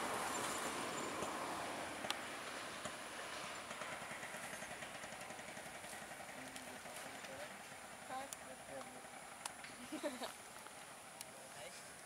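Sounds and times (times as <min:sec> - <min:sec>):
diesel train engine: 0:00.0 - 0:12.0.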